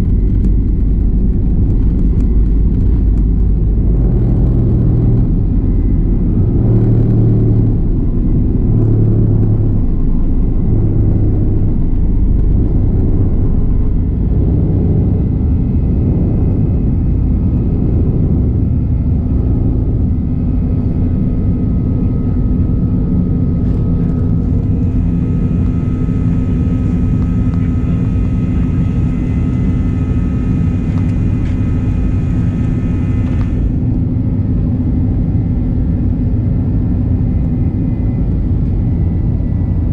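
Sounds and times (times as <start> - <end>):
faint high whine: 0.0 - 39.9
jet engine and airflow rumble: 0.0 - 39.9.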